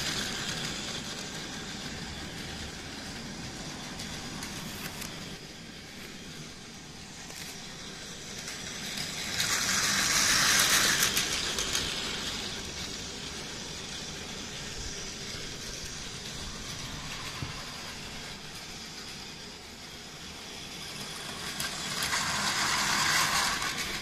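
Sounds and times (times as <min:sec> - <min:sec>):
toy train motor whirring: 0:00.0 - 0:24.0
wheels rattling on plastic track: 0:00.0 - 0:24.0.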